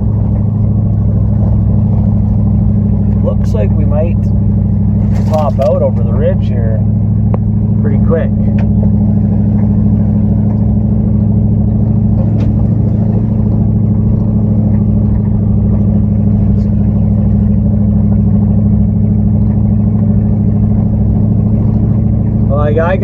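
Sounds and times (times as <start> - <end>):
truck engine pulling uphill: 0.0 - 23.0.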